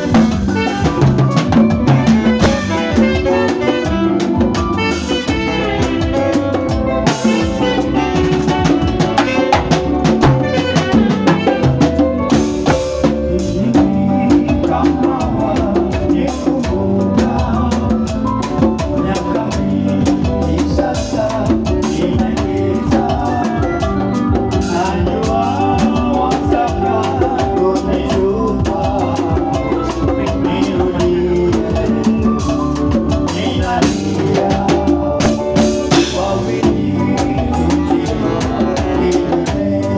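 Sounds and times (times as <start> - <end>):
drum beat: 0.0 - 39.9
electric guitar: 0.0 - 39.9
person singing into microphone: 0.0 - 39.9
saxophone: 0.0 - 39.9.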